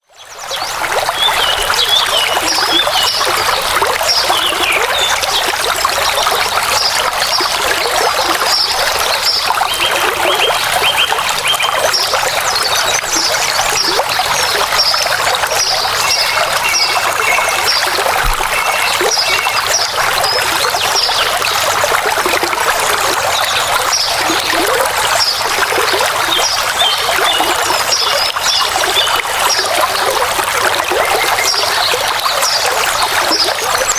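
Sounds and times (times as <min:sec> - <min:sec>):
water trickling over rocks: 0:00.2 - 0:33.9.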